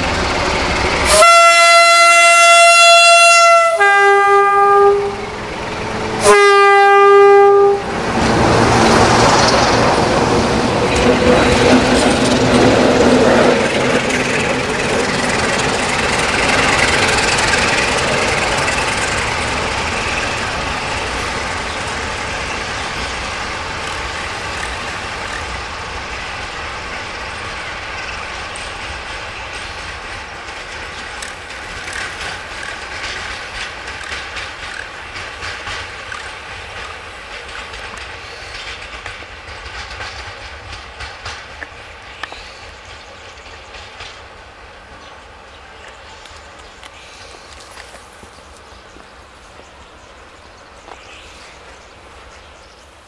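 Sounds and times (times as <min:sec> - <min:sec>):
train wheel and rail rumble: 0:00.0 - 0:53.0
wheels clicking over rail joints: 0:08.0 - 0:51.3.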